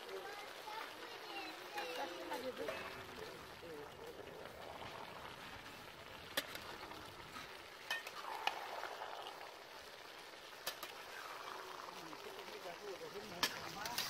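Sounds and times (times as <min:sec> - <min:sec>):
curry sizzling in a metal pot: 0:00.0 - 0:14.0.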